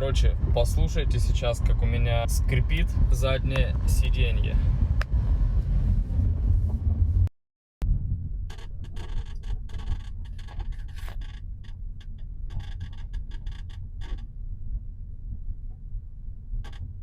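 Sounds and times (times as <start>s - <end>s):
low road rumble in car cabin: 0.0s - 17.0s.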